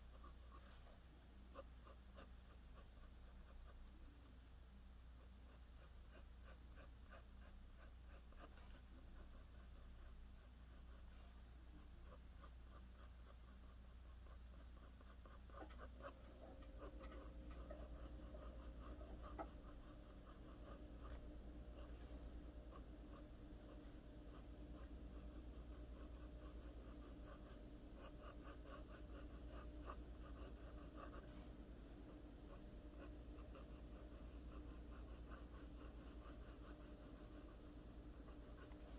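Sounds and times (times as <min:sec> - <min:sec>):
pencil scratching on paper: 0:00.0 - 0:04.6, 0:05.2 - 0:38.9.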